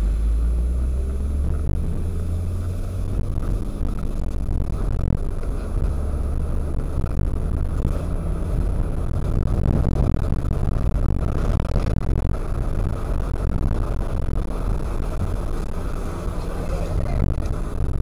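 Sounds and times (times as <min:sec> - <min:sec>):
car interior rumble while driving: 0:00.0 - 0:18.0.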